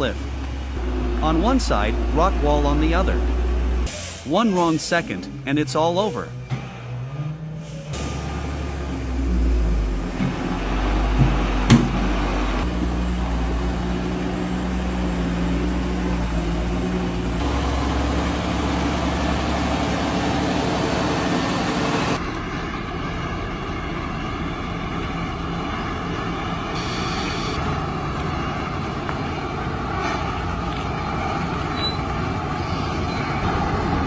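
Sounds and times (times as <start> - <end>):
heavy truck engine running: 0.0 - 34.0
road and tyre noise: 0.0 - 34.0.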